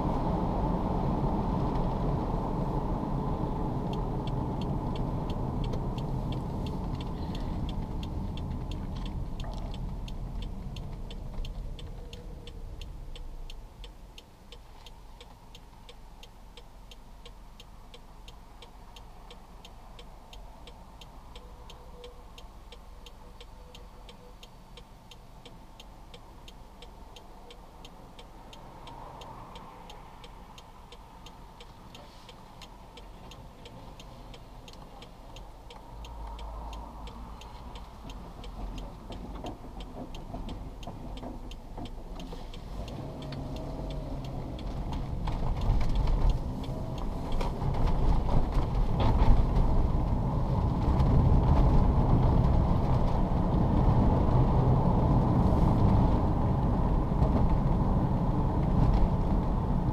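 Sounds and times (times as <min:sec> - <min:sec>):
car engine and road noise: 0:00.0 - 0:59.9
turn signal ticking: 0:00.0 - 0:59.9.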